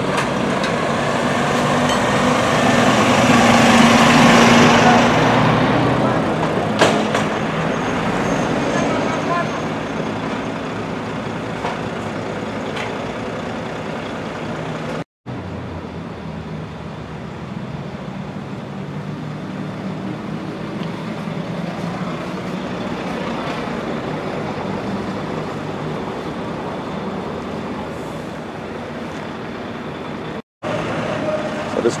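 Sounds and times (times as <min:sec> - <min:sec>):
diesel engines idling: 0:00.0 - 0:32.0.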